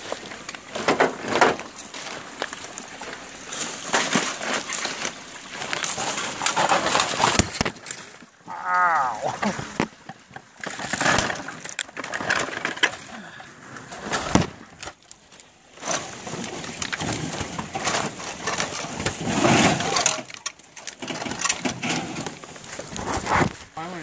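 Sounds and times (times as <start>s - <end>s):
rustling through undergrowth: 0.0s - 24.0s.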